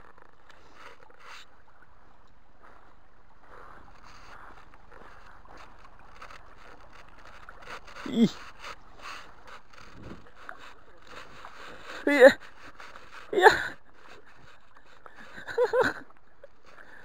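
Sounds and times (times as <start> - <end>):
stream running over gravel: 3.2 - 17.0.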